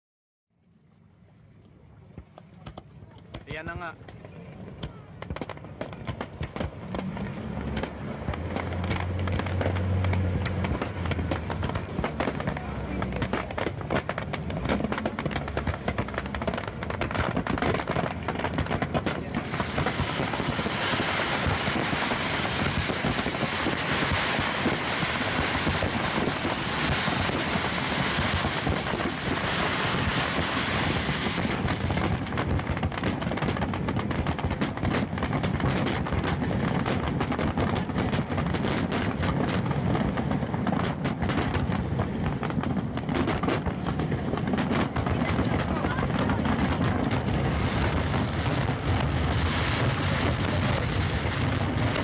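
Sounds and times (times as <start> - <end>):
fireworks crackling and popping: 2.1 - 52.0.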